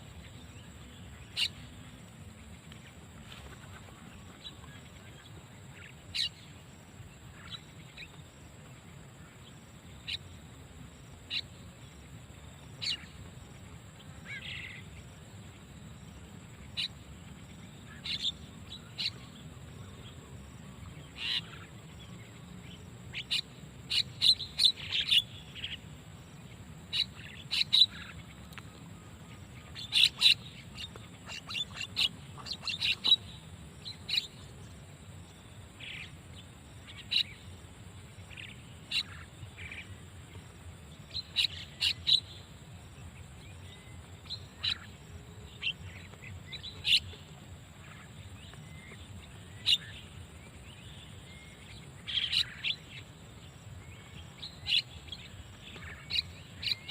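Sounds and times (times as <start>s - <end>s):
faint steady background noise: 0.0s - 56.9s.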